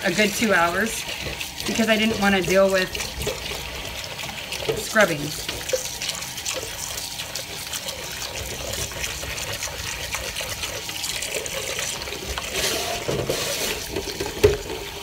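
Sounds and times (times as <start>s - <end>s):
dishcloth scrubbing a pot: 0.0s - 15.0s
water sloshing: 0.0s - 15.0s.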